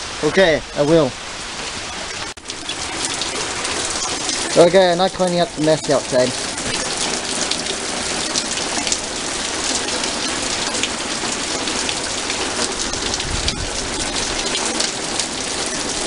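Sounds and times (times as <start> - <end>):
heavy rain: 0.0 - 16.0
raindrops ticking near microphone: 0.0 - 16.0.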